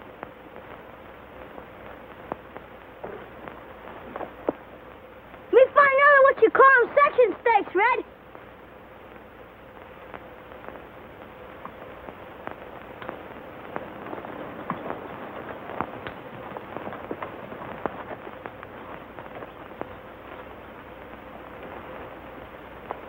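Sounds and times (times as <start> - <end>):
clicks and crackles in brush: 0.0 - 5.6, 8.2 - 23.0
film soundtrack hiss and hum: 0.0 - 23.0.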